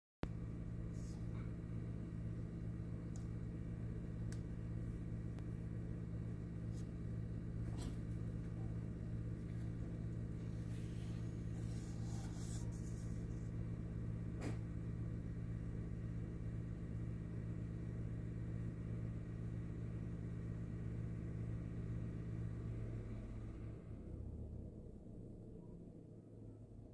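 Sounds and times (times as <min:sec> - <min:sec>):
low electrical hum: 0:00.2 - 0:26.9.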